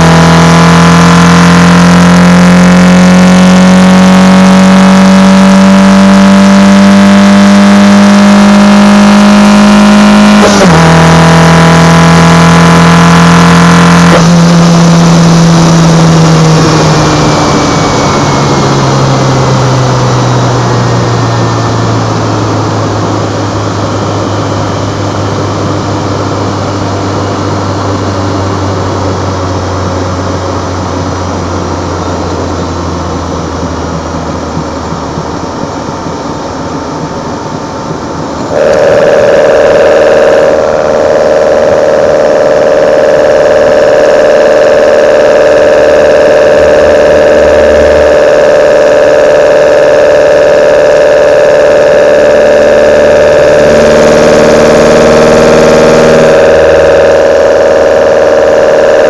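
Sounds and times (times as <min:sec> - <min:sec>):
car engine revving high: 0:00.0 - 0:59.0.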